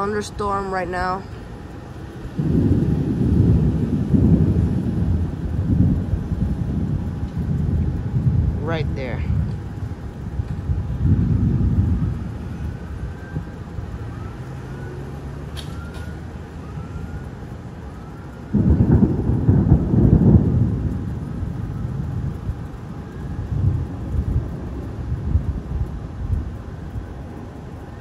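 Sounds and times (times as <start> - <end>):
thunder rumbling: 0.0 - 28.0.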